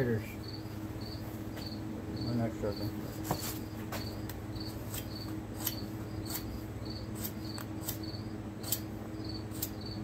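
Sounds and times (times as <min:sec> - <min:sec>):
cricket chirping: 0:00.0 - 0:10.0
low electrical hum: 0:00.0 - 0:10.0.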